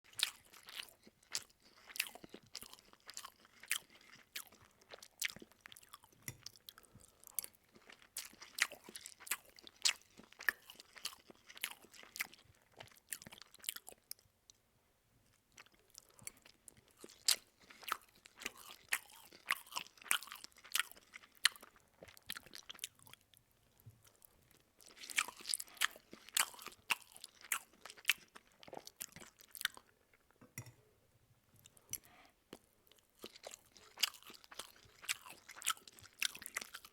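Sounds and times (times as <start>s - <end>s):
person chewing food: 0.0s - 14.2s, 15.5s - 30.7s, 31.6s - 36.9s.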